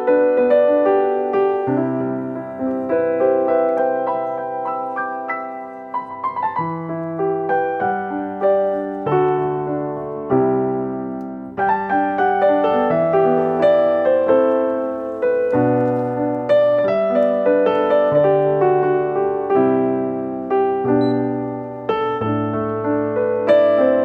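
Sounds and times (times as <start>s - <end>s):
gentle solo piano melody: 0.0s - 24.0s.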